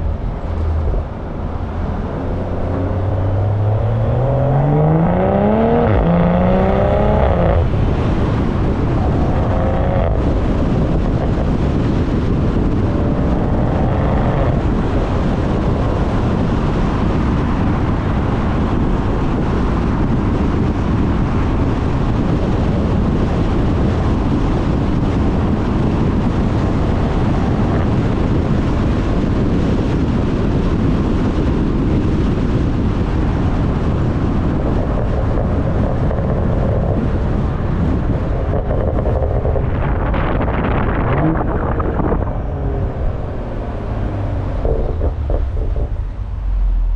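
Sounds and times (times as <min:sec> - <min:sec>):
car exhaust running: 0:00.0 - 0:46.9
wind buffeting microphone: 0:00.0 - 0:46.9.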